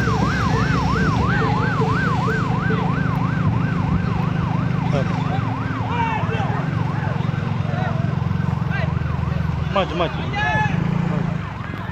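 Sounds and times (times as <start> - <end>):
electronic siren yelping: 0.0 - 10.6
vehicle engine hum: 0.0 - 11.9.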